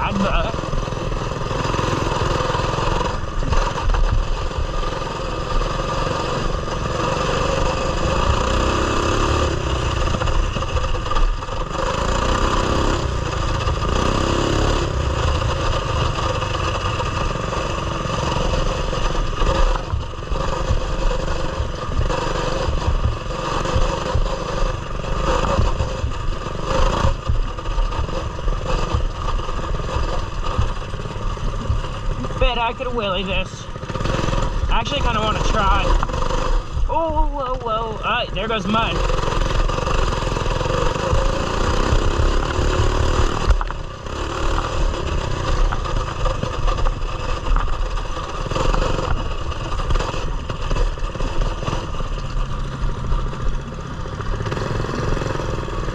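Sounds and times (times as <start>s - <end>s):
small engine revving: 0.0s - 55.9s.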